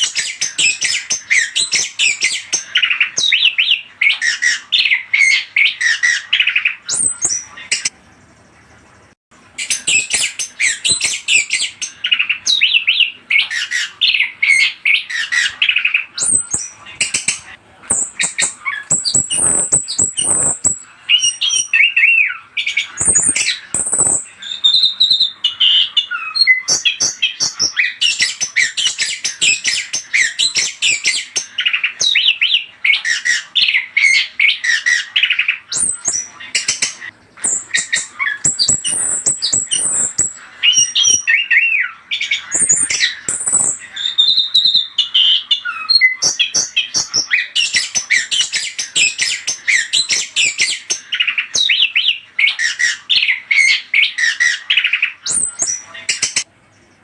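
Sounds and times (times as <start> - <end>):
thrush singing chirps and trills: 0.0 - 57.0.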